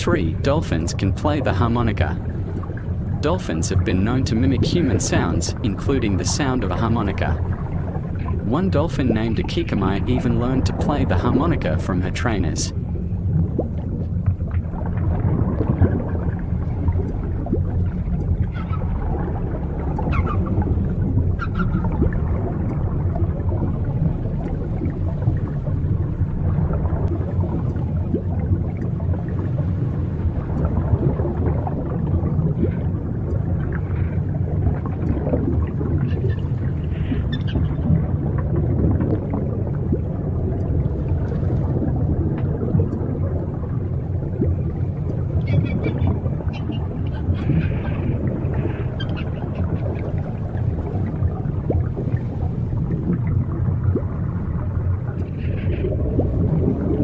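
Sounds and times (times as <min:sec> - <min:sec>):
underwater rumble of water: 0:00.0 - 0:57.0.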